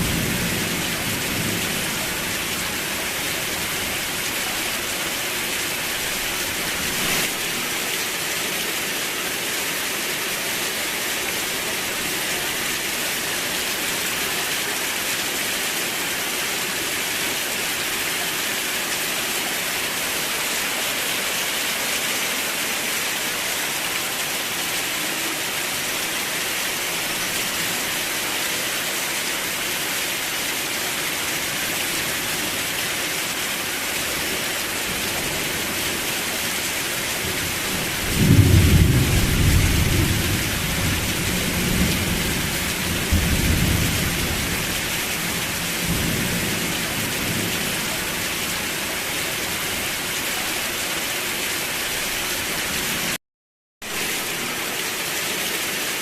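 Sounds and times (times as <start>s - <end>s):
heavy rain: 0.0s - 53.2s, 53.8s - 56.0s.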